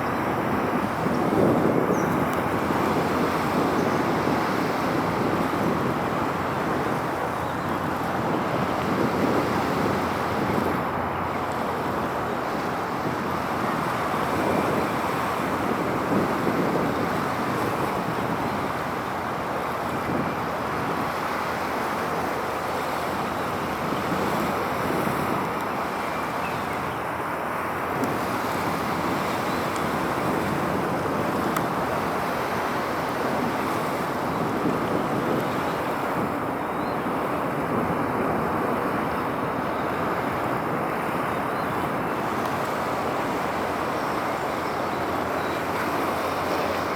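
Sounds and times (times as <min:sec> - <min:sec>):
waves: 0:00.0 - 0:46.9
wind: 0:00.0 - 0:46.9.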